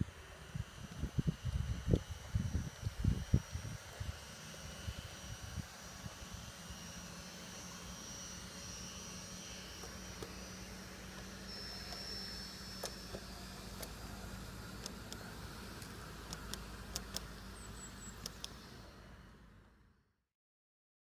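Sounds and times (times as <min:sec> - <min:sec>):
model train motors whining: 0:00.0 - 0:20.0.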